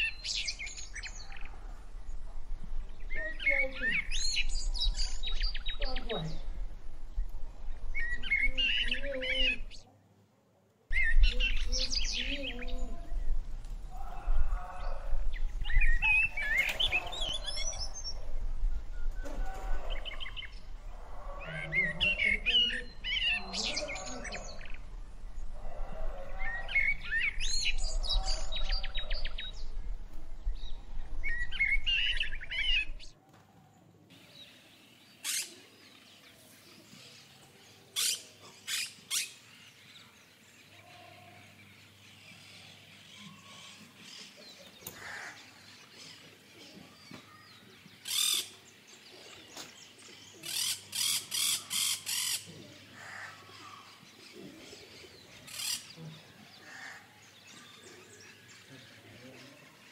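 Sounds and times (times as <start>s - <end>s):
small birds chirping: 0.0s - 10.2s, 10.8s - 33.3s, 34.0s - 59.9s.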